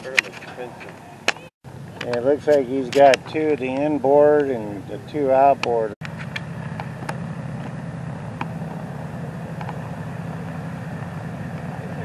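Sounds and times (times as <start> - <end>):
piston engines idling: 0.0 - 12.0.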